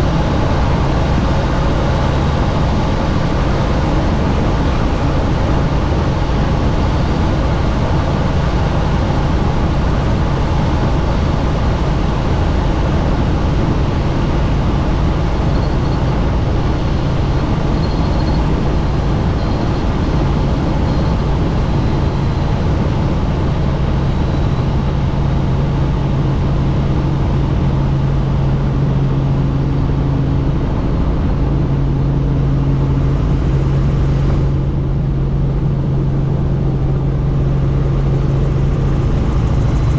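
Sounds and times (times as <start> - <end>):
helicopter engine and rotor noise: 0.0 - 39.9
rushing wind: 0.0 - 39.9
steady low hum: 0.0 - 39.9.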